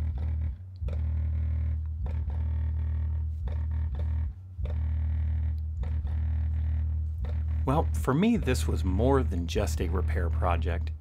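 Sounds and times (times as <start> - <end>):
deep bass music from subwoofer: 0.0 - 11.0.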